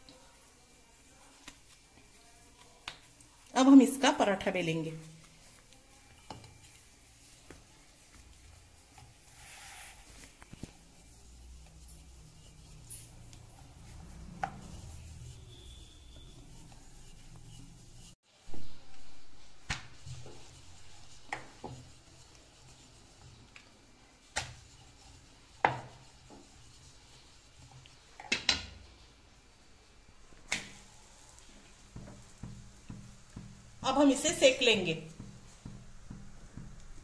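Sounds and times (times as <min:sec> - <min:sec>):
rolling pin rubbing on dough: 0:00.0 - 0:18.2, 0:18.9 - 0:28.2, 0:30.8 - 0:37.0.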